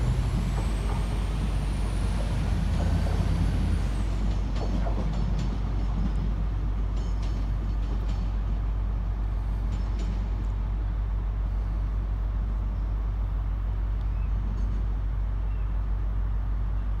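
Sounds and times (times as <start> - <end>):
diesel trains running: 0.0 - 17.0.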